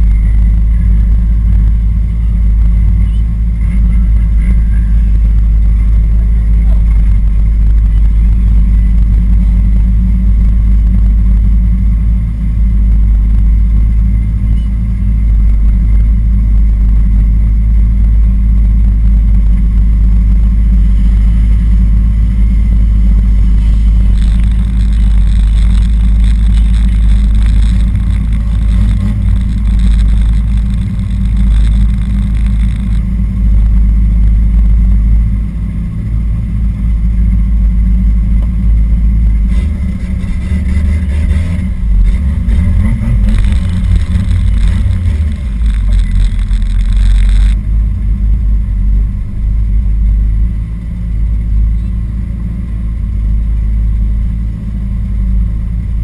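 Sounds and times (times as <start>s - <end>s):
car engines revving: 0.0s - 56.0s
heavy low rumble: 0.0s - 56.0s.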